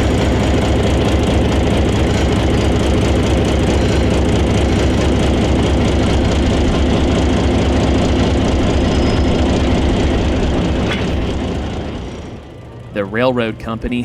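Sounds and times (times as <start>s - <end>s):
diesel locomotive engine throbbing: 0.0s - 14.0s.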